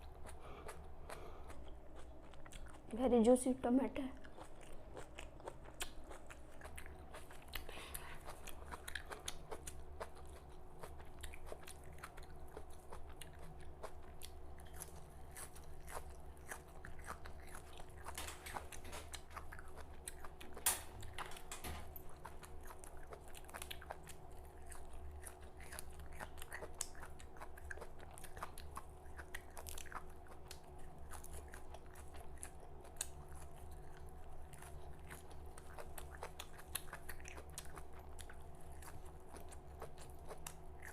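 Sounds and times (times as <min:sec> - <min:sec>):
wet chewing of leaves: 0:00.0 - 0:02.9, 0:04.1 - 0:40.9.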